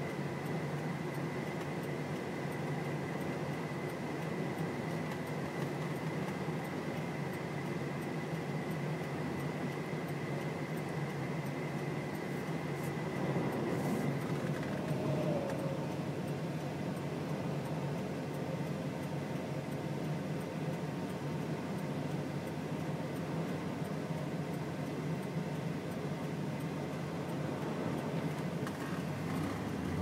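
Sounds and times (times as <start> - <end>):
faint high whine: 0.0 - 30.0
vehicle interior hum and hiss: 0.0 - 30.0.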